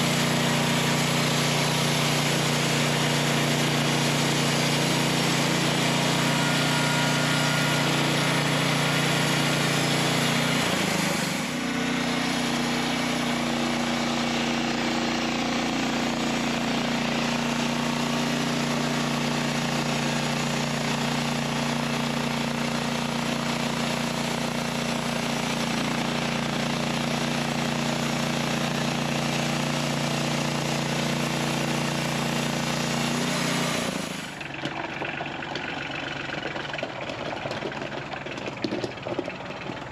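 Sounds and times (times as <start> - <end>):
band blade sawing log: 0.0 - 22.0, 22.7 - 34.4
gas engine at high throttle: 0.0 - 39.9.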